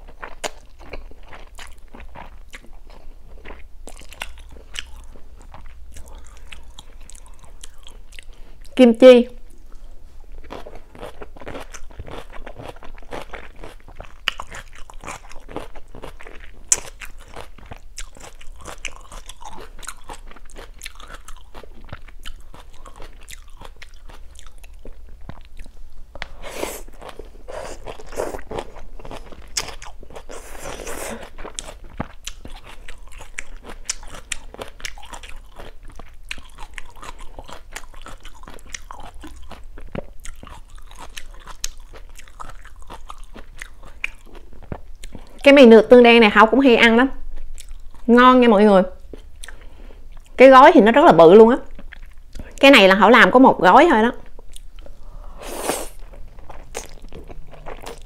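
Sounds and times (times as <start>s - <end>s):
chewing and crunching food: 0.0s - 8.8s, 9.4s - 46.0s, 47.1s - 48.1s, 49.0s - 50.4s, 51.4s - 52.8s, 54.1s - 58.0s.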